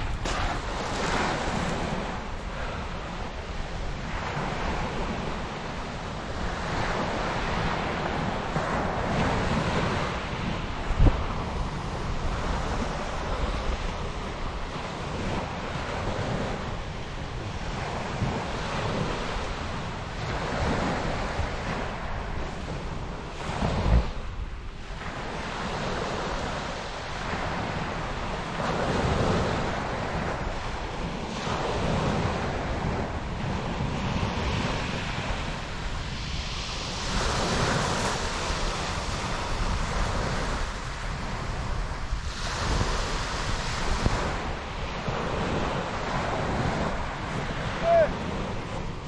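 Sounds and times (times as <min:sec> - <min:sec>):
waves washing on shingle: 0:00.0 - 0:49.0
wind buffeting microphone: 0:00.0 - 0:49.0.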